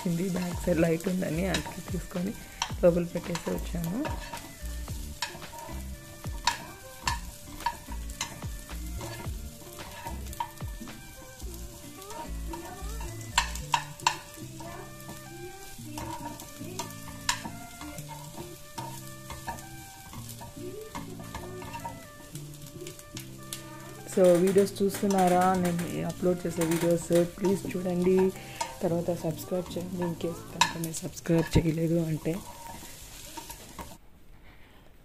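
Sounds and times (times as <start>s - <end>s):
food sizzling in a pan: 0.0s - 34.0s
soft instrumental music: 0.0s - 34.0s
spoon stirring and knocking pan: 0.0s - 34.0s.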